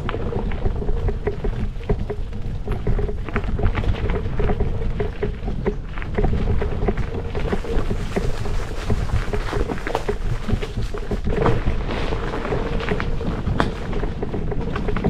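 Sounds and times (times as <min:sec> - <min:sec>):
bike rattling: 0:00.0 - 0:15.0
steady low rumble: 0:00.0 - 0:15.0
tyres crunching on gravel: 0:00.0 - 0:15.0.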